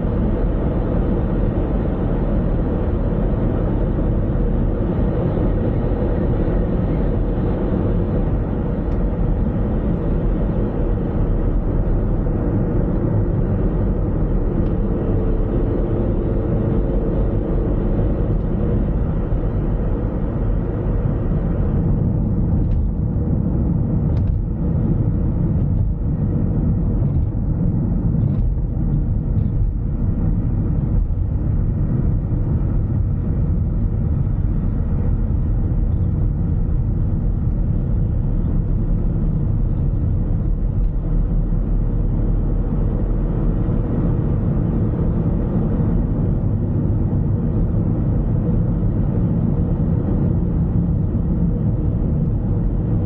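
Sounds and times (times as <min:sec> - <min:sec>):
car driving rumble: 0:00.0 - 0:53.0.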